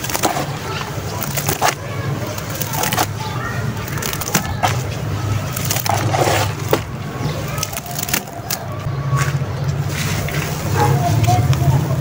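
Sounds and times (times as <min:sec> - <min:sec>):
hands squelching wet slurry: 0:00.0 - 0:12.0.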